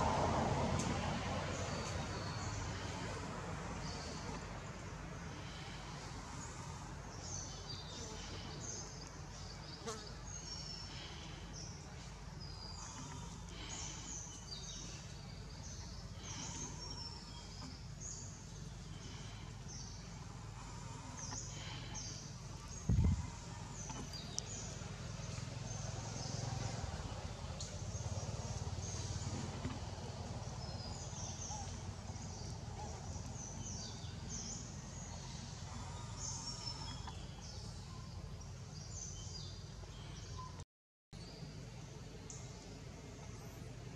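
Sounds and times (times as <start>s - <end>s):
low steady rumble: 0.0s - 40.6s.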